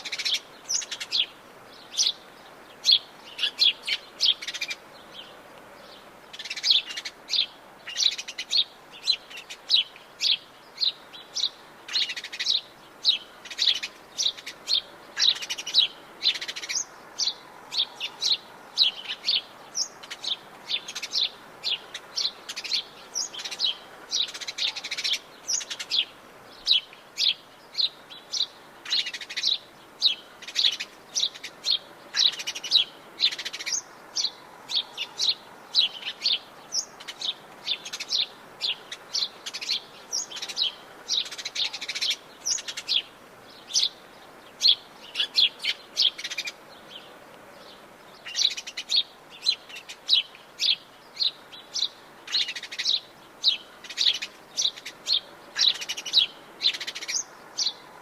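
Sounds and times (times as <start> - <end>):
birds chirping and singing: 0.0 - 58.0
faint background hiss: 0.0 - 58.0.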